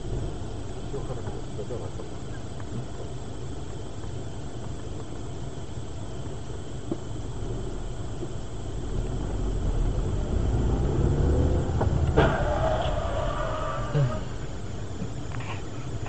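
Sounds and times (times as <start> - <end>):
car engine and cabin rumble: 0.0 - 16.0.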